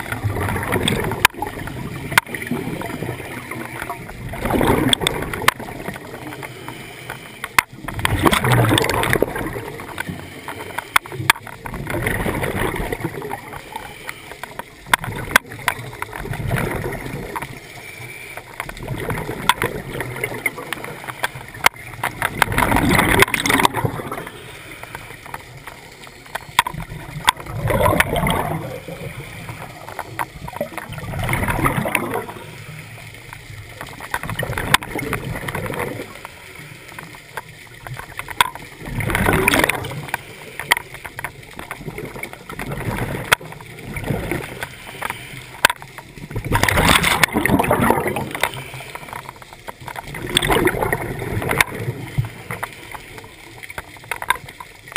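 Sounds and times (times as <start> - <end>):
exhaled bubbles gurgling underwater: 0.0 - 54.9
underwater noise: 0.0 - 54.9.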